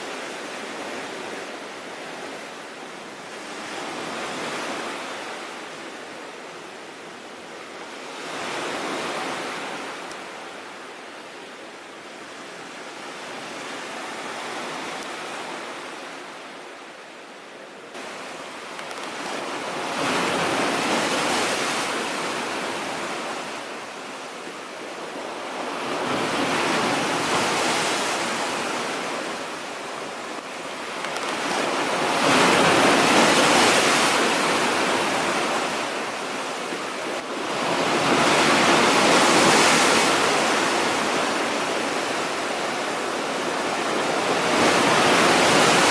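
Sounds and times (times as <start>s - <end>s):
storm waves breaking on shore: 0.0s - 45.9s.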